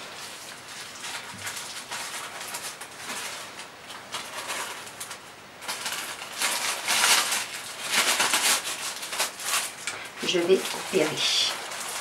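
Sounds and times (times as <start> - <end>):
plastic gloves rustling: 0.0 - 12.0.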